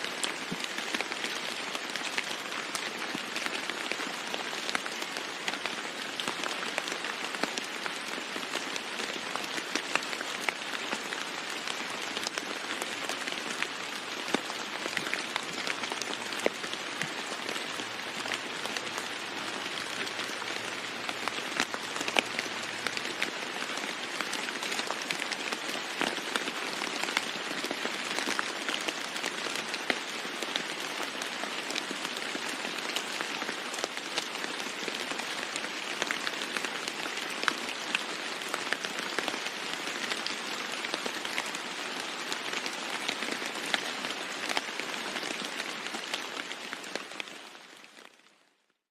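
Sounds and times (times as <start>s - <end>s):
rain falling on a roof: 0.0s - 48.9s.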